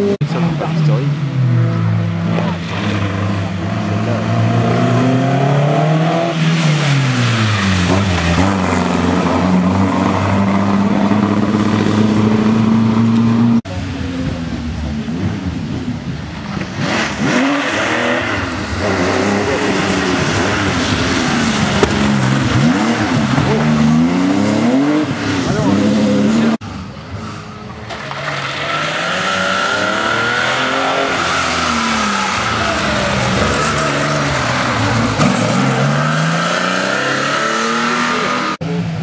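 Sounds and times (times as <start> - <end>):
car approaching and revving: 0.0 - 39.0
rally car engine revving: 0.0 - 39.0.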